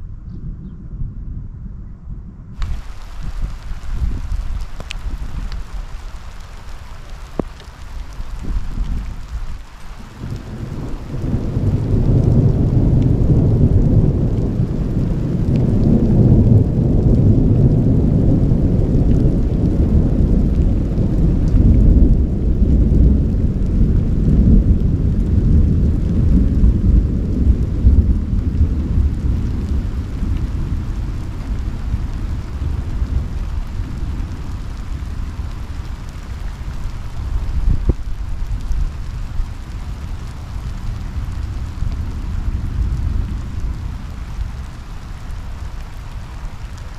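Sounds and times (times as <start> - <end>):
thunder rumbling: 0.5 - 46.9.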